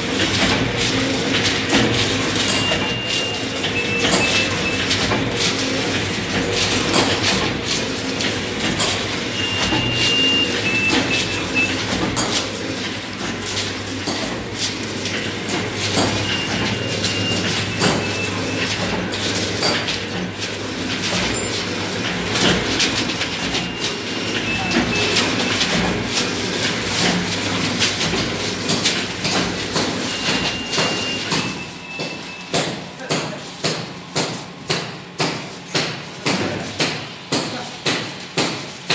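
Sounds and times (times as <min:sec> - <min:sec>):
machine humming: 0:00.0 - 0:32.6
machine clacks and knocks: 0:00.0 - 0:38.9.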